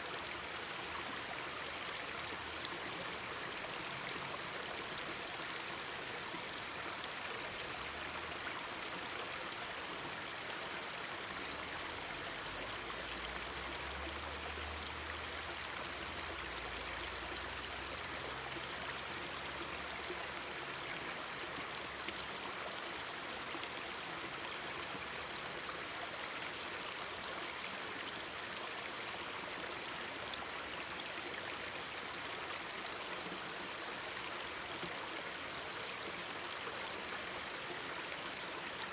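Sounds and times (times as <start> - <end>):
mountain stream babbling: 0.0 - 38.9.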